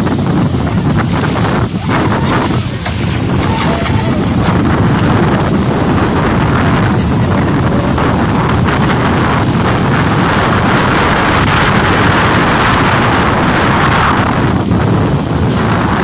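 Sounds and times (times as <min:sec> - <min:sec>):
model speedboat motors: 0:00.0 - 0:16.0
wind buffeting microphone: 0:00.0 - 0:16.0.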